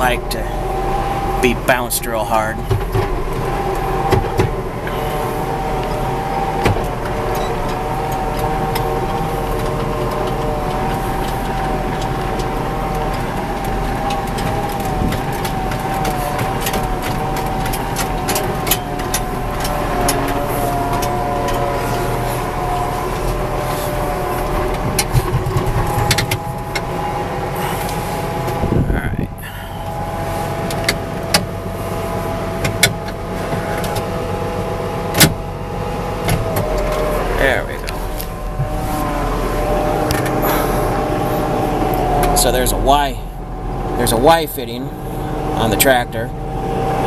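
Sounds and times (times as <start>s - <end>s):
steady whine: 0.0s - 47.0s
tractor engine rumble: 0.0s - 47.0s.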